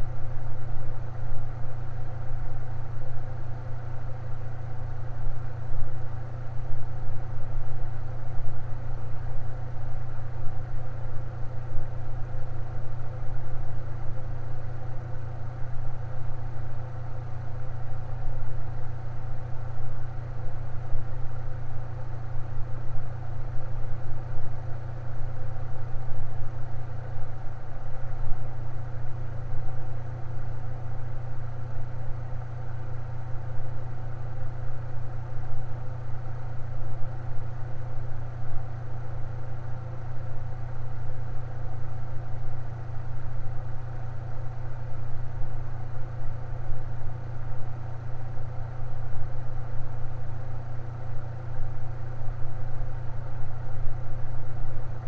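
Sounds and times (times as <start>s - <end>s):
electric fan humming: 7.4s - 55.0s.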